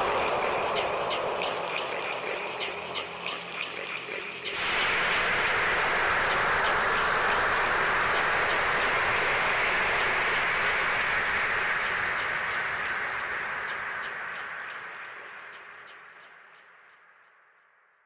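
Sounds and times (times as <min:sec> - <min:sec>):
hiss-like electronic noise: 0:00.0 - 0:16.8.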